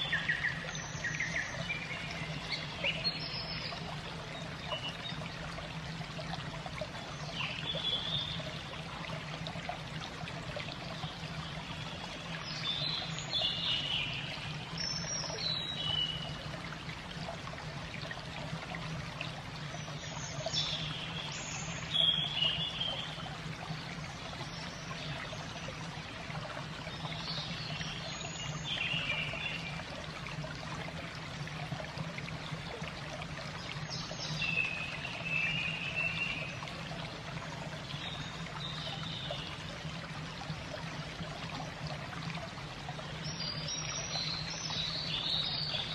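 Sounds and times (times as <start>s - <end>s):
water trickling: 0.0s - 45.9s.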